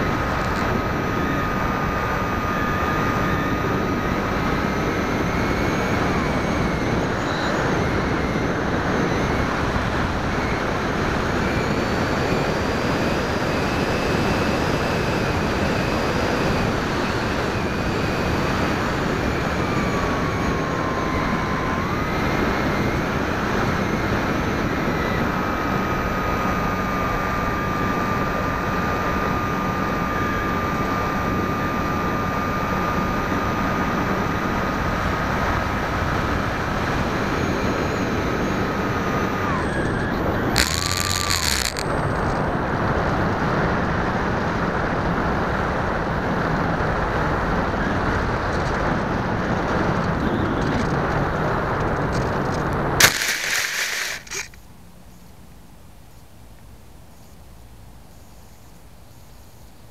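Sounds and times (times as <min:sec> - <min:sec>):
model aircraft motor whining: 0:00.0 - 0:45.4, 0:46.1 - 0:54.6.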